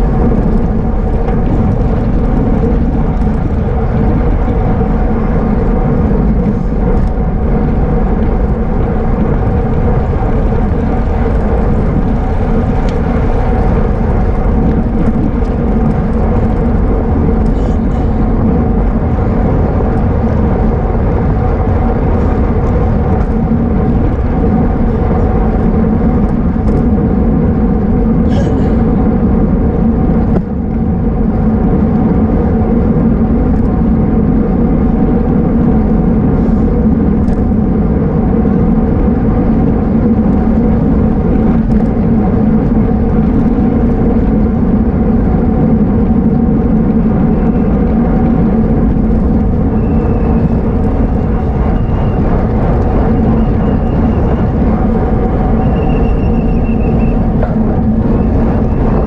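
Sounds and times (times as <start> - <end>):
bicycle road noise: 0.0 - 59.0
constant low hum: 0.0 - 59.0
wind rush: 0.0 - 59.0.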